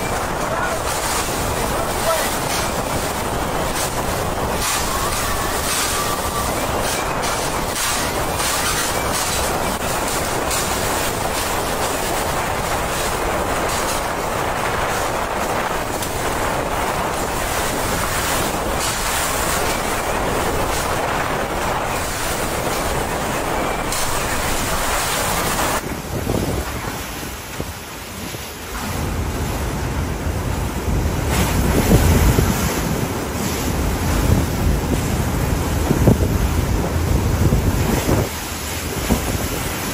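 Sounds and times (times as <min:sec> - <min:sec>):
driving rain: 0:00.0 - 0:39.9
hurricane wind: 0:00.0 - 0:39.9.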